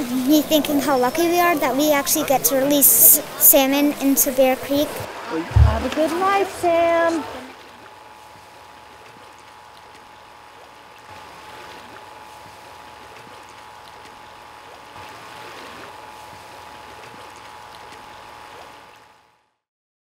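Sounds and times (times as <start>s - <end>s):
creek water running: 0.0s - 19.5s.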